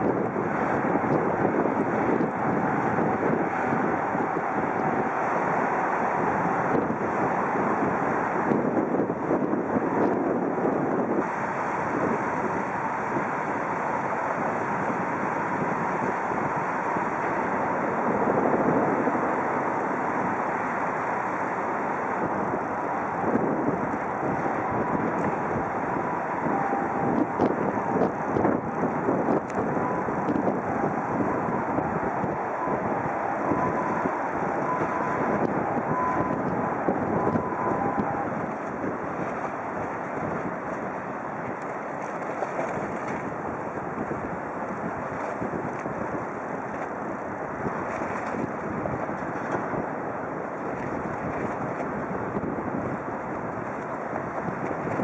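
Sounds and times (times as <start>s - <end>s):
background rumble: 0.0s - 55.0s
wind on microphone: 0.0s - 55.0s.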